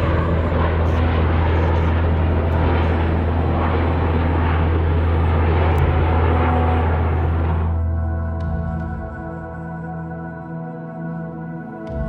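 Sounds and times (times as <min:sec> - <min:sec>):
aircraft droning overhead: 0:00.0 - 0:12.0.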